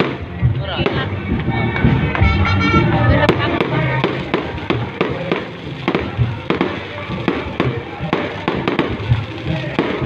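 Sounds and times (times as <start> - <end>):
fireworks bangs and pops: 0.0 - 10.0
music playing: 0.0 - 10.0.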